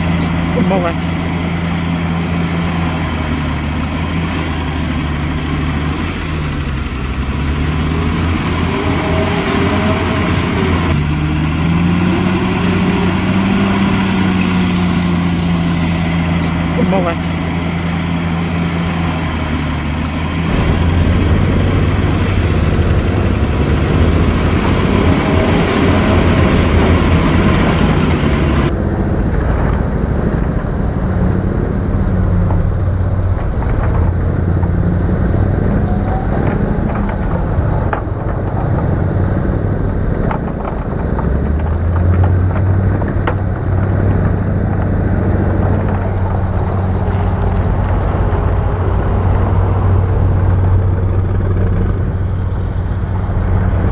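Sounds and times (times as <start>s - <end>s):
knocks and clanks: 0.0s - 30.8s, 32.2s - 53.9s
diesel construction machinery running: 0.0s - 53.9s.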